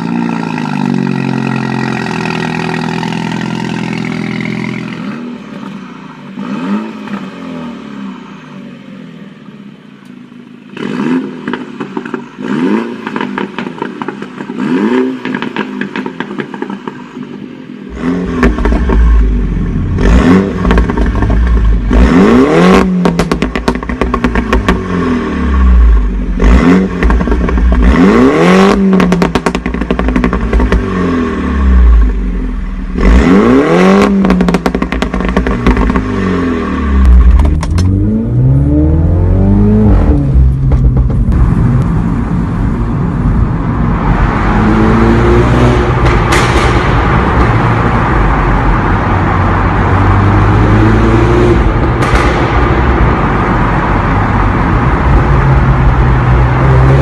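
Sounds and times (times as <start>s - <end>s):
car engine revving with crackles: 0.0s - 8.4s, 10.1s - 57.0s
road and tyre noise: 0.0s - 57.0s.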